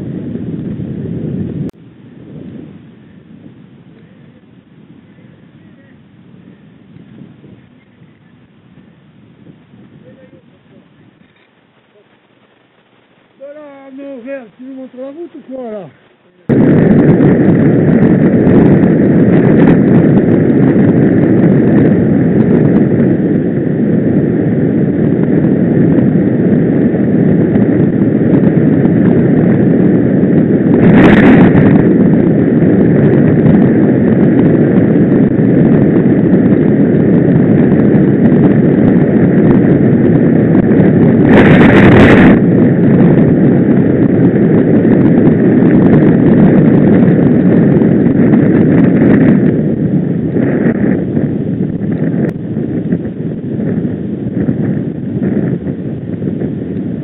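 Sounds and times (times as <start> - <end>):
road rumble: 0.0 - 57.0
wind buffeting microphone: 0.0 - 57.0.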